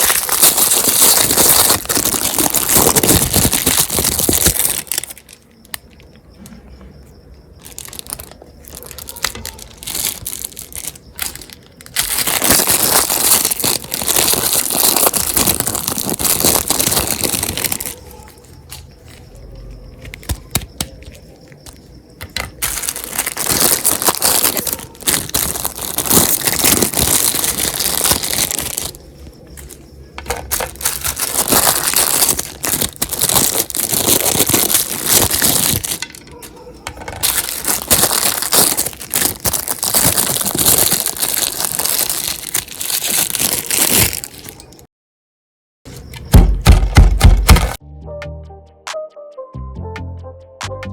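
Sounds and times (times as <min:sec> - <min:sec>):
meat grinder crunching sweets: 0:00.0 - 0:05.5, 0:07.6 - 0:18.1, 0:20.0 - 0:44.8, 0:46.7 - 0:47.8.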